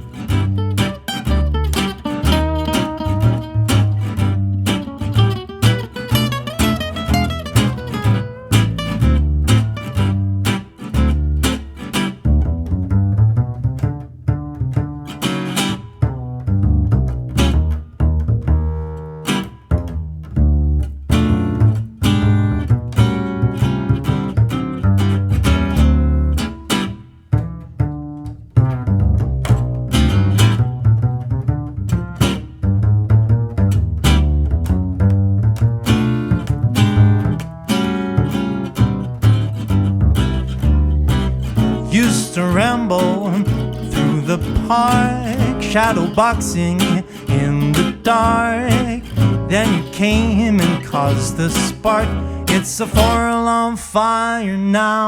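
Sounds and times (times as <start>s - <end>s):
acoustic swing band playing: 0.0s - 53.6s
double bass: 0.0s - 55.0s.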